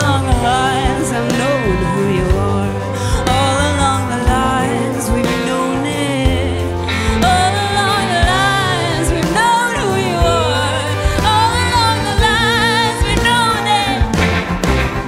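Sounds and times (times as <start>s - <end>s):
woman singing with vibrato: 0.0s - 14.4s
live band playing: 0.0s - 15.0s.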